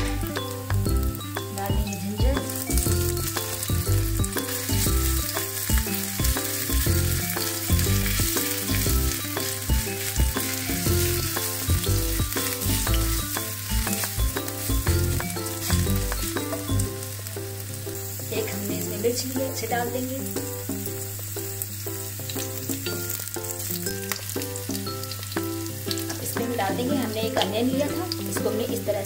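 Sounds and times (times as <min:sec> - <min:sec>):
background music with steady beat: 0:00.0 - 0:29.0
garlic sizzling in hot oil: 0:00.0 - 0:29.0.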